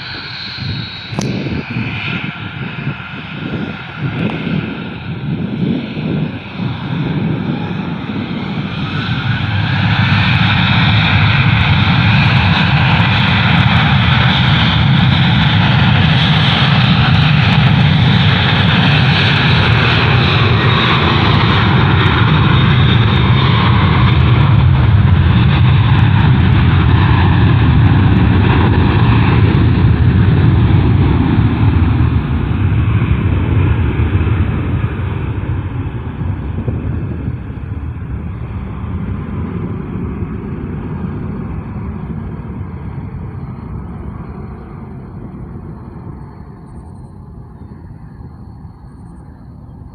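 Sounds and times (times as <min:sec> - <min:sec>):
airliner engines passing: 0:00.0 - 0:49.9.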